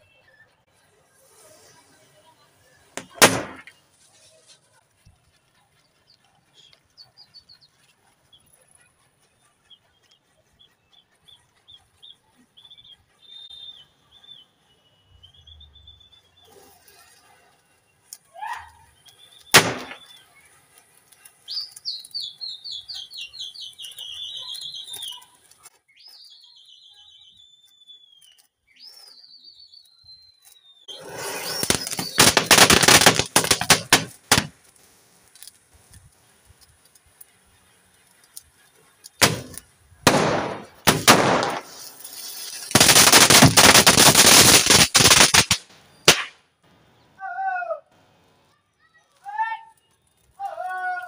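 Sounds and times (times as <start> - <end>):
sharp firecracker bursts: 0.0 - 29.4, 30.4 - 47.2
firecracker crackling hiss: 0.0 - 47.2.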